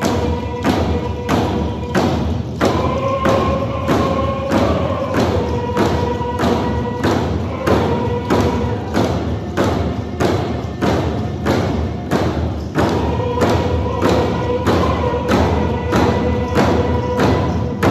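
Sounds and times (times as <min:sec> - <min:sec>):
group singing long notes: 0:00.0 - 0:17.9
hand drums beating: 0:00.0 - 0:17.9.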